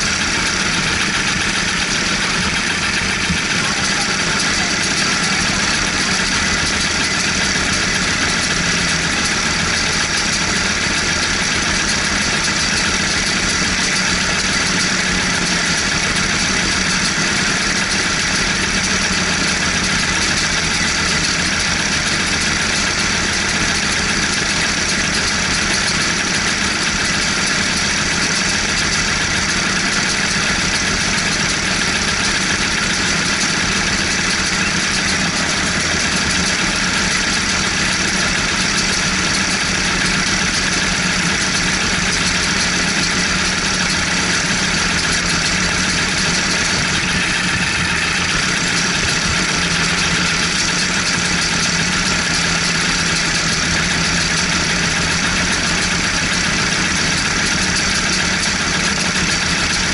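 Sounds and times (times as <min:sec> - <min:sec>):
kart engines idling: 0:00.0 - 0:59.9.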